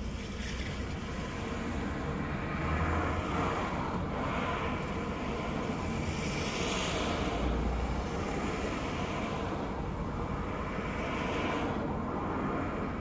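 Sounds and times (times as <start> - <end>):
cars swishing past: 0.0 - 13.0.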